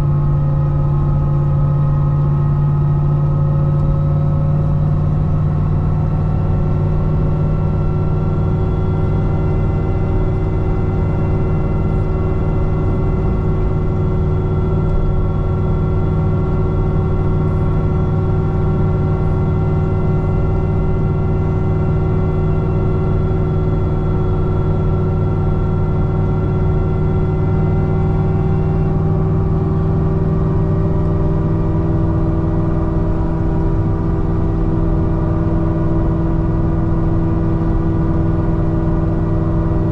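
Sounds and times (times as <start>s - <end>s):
car engine droning at cruise: 0.0s - 39.9s.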